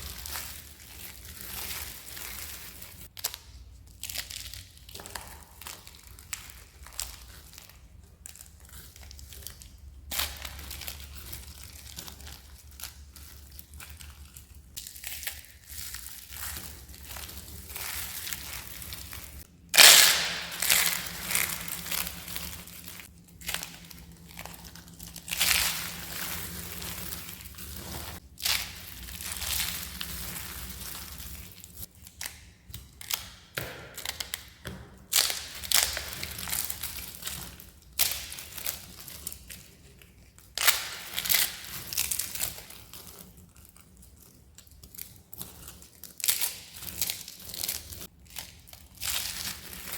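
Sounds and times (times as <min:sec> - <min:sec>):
dry soap crunching: 0:00.0 - 0:49.9.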